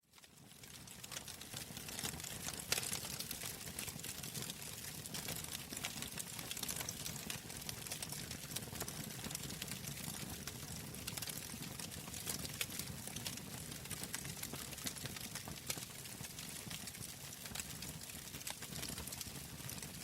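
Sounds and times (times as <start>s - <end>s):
fire popping and snapping: 0.2s - 20.0s.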